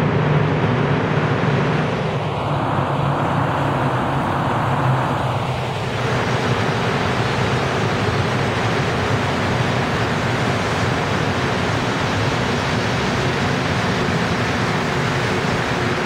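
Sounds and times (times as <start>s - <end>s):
metro train running: 0.0s - 16.0s.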